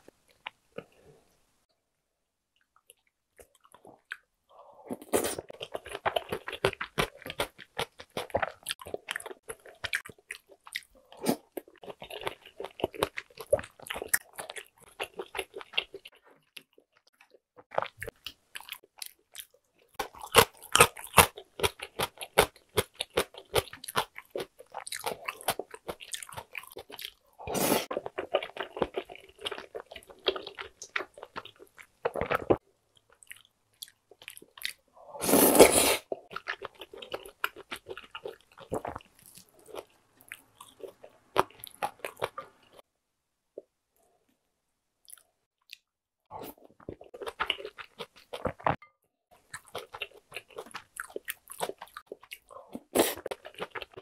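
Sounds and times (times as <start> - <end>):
chewing and wet mouth sounds: 2.6 - 34.9, 36.1 - 42.8, 45.0 - 54.0.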